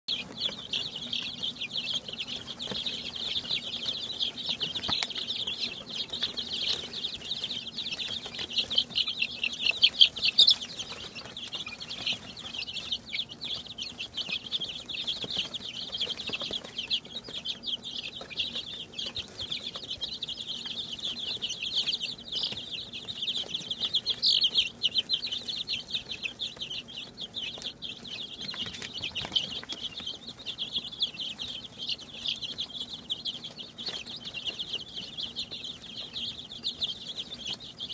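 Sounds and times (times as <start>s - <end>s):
chicks peeping: 0.1s - 37.9s.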